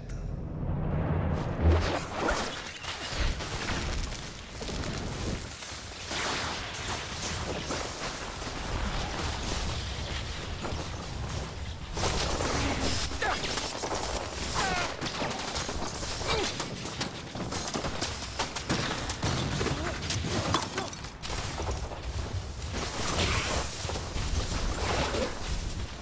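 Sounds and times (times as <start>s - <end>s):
electric crackling and sizzling: 0.4s - 26.0s.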